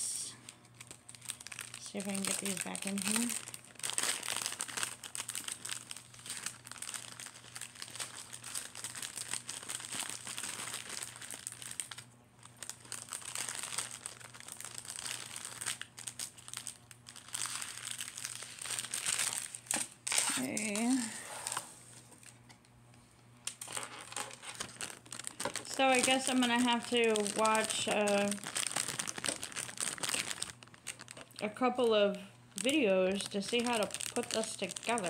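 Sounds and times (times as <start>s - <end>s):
plastic bag crinkling: 0.4s - 22.4s, 23.5s - 35.0s.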